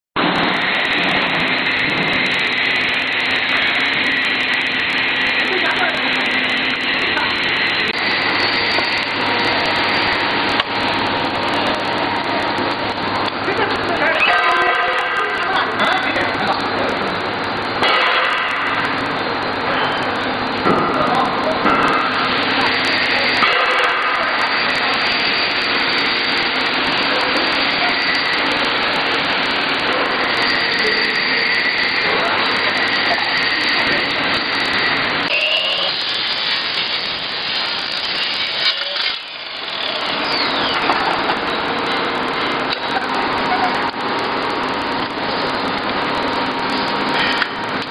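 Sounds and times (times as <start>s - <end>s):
machine whirring and hissing: 0.2s - 47.9s.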